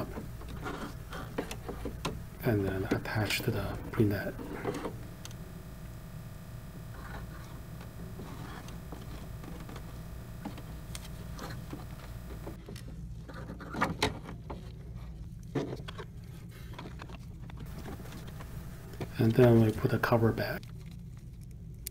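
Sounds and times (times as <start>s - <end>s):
steady low hum: 0.0s - 13.2s, 15.2s - 21.9s.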